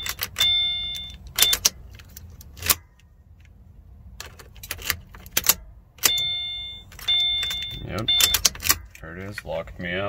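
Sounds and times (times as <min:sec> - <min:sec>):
car keys jangling: 0:00.0 - 0:03.5, 0:04.2 - 0:09.0.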